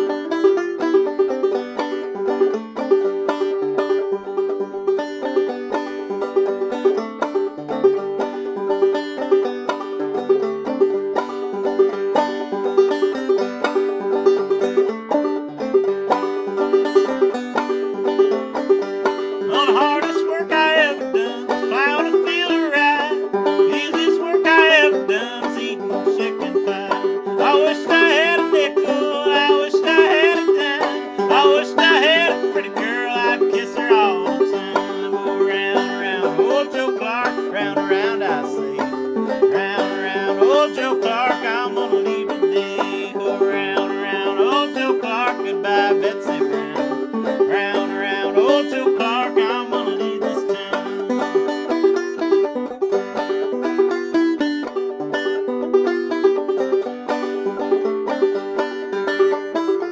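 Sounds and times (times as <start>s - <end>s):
banjo playing old-time tune: 0.0s - 59.9s.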